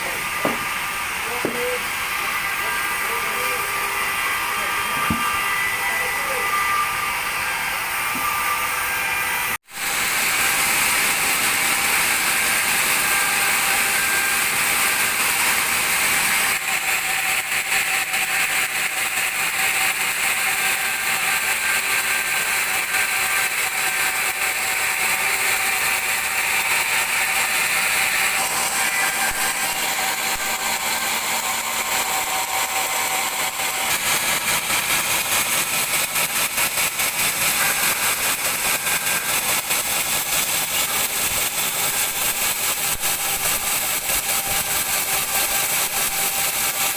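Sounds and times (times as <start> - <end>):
band saw cutting log: 0.0 - 46.9.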